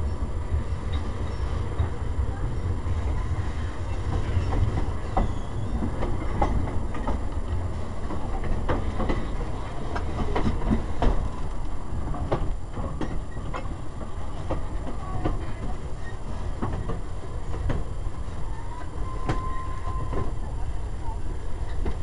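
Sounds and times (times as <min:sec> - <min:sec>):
railcar rumbling on track: 0:00.0 - 0:22.0.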